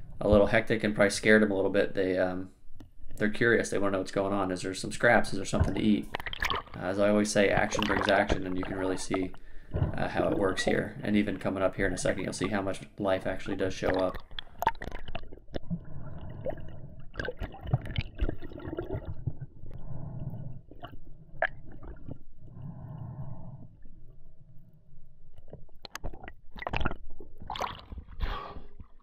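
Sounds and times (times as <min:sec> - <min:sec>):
underwater gurgling and sloshing: 0:00.0 - 0:29.0.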